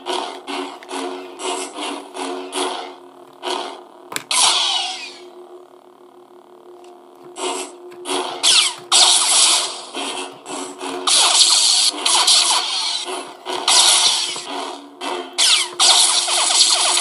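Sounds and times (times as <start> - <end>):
lightsaber buzzing hum: 0.0 - 17.0.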